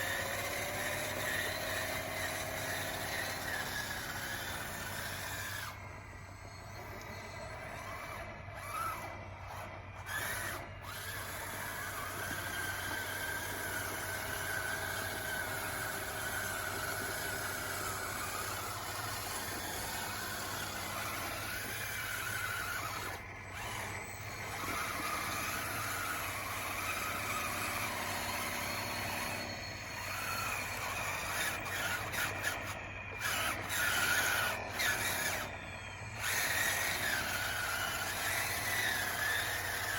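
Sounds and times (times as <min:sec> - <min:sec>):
electric motors and gears whining: 0:00.0 - 0:39.9.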